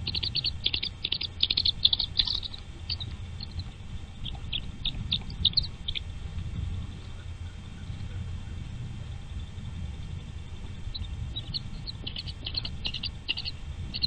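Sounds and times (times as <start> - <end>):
low steady rumble: 0.0 - 14.0
nestling birds cheeping: 0.0 - 14.0.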